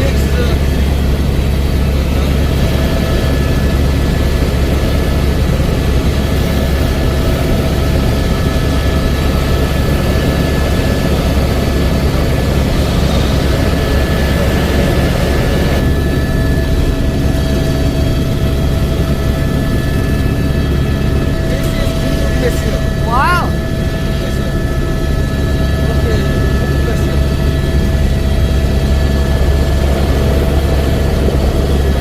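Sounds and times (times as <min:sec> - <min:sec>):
helicopter engine and rotor drone: 0:00.0 - 0:32.0.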